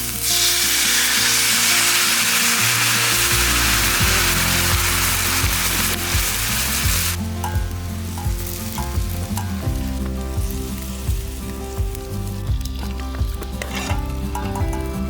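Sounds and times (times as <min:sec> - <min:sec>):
background music with low notes: 0:00.0 - 0:15.0
food sizzling as it fries: 0:00.0 - 0:15.0.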